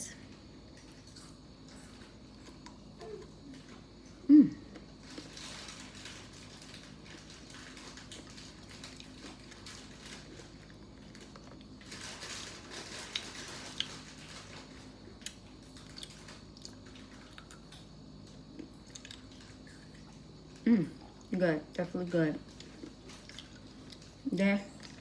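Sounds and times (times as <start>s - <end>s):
faint crunchy chewing: 0.7s - 25.0s.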